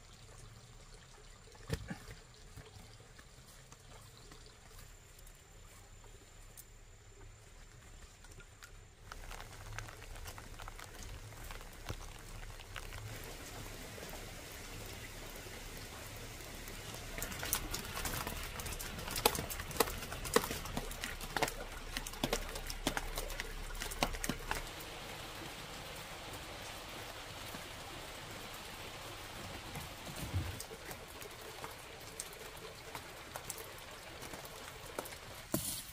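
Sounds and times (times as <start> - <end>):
rain falling: 1.6 - 35.9.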